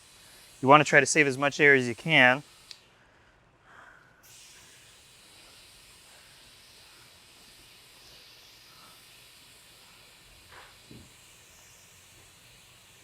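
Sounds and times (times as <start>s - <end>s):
compressed gas hissing through hose: 0.0s - 3.1s, 4.2s - 13.0s.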